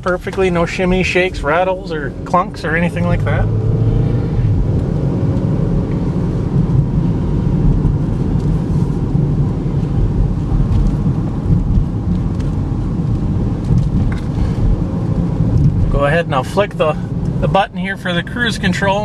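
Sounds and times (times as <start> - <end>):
car cabin road and engine rumble: 0.0 - 19.0.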